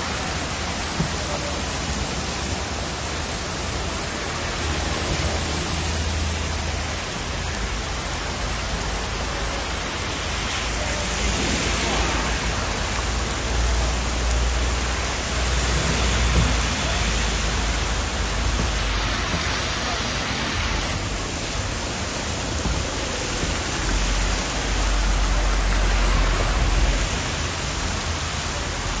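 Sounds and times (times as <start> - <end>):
heavy rain pouring: 0.0 - 29.0
vehicles driving through water: 0.0 - 29.0.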